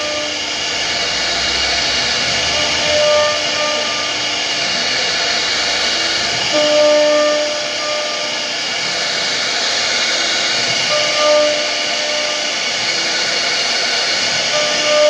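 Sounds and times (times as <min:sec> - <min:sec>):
router spindle carving wood: 0:00.0 - 0:15.0.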